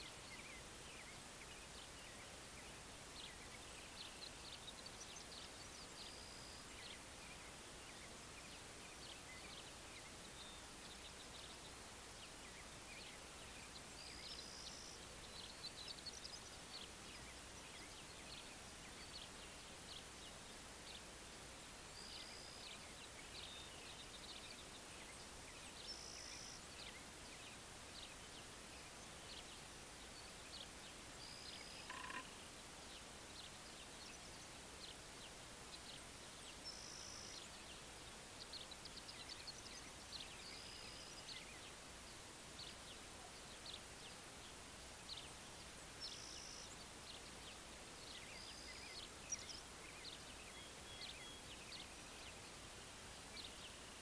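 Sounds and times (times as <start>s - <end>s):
birds chirping: 0.0s - 54.0s
steady hiss: 0.0s - 54.0s.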